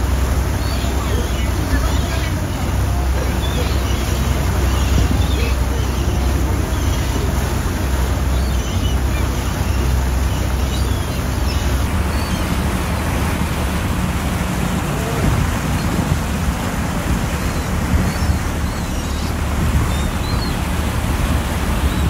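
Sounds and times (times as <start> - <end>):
boat engine humming: 0.0 - 22.0
sea water rushing: 0.0 - 22.0.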